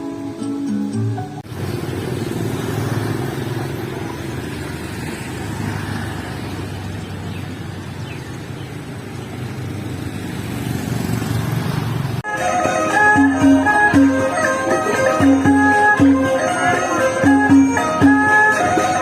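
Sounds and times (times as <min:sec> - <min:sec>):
road noise: 0:00.0 - 0:19.0
vehicle engines running: 0:00.7 - 0:19.0.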